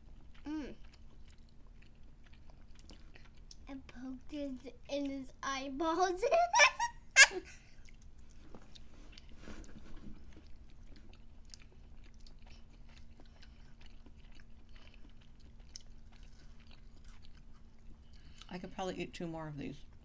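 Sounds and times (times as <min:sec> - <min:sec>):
faint close-up chewing: 0:00.0 - 0:05.3, 0:07.5 - 0:18.8.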